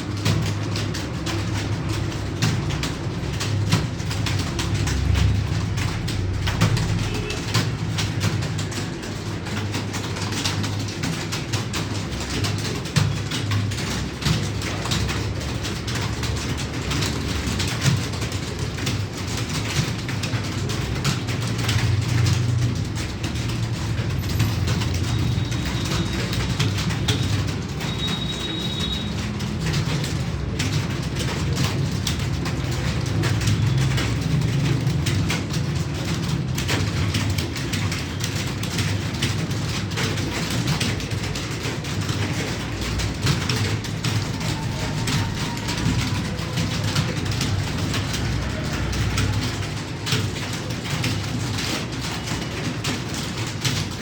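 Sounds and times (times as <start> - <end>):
keyboard typing: 0.0 - 54.0.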